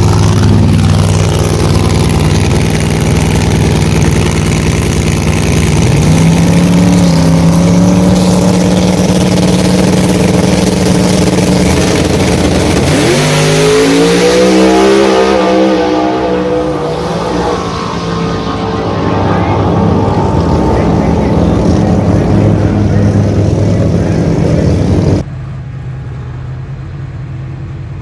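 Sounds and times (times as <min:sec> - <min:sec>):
race car engine revving: 0:00.0 - 0:25.3.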